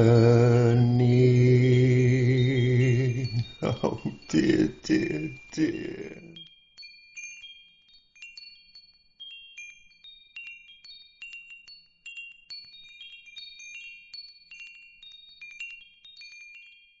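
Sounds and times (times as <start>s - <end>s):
wind chimes tinkling: 0.0s - 17.0s.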